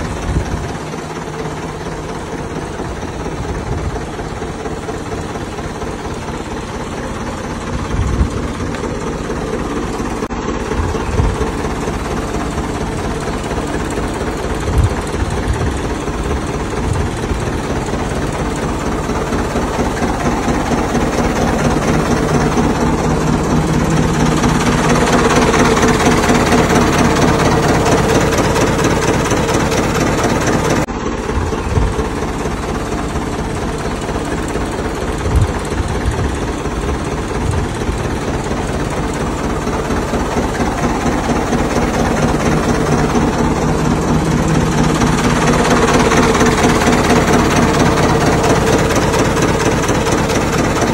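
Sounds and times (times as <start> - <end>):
tractor diesel engine idling: 0.0 - 50.9.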